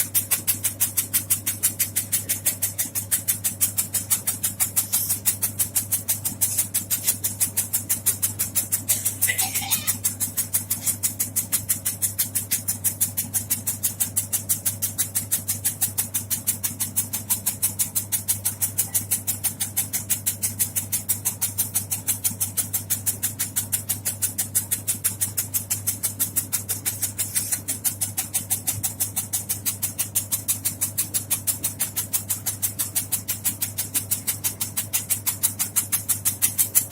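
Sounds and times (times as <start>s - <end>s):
cutter chopping rhythmically: 0.0s - 36.9s
steady motor hum: 0.0s - 36.9s.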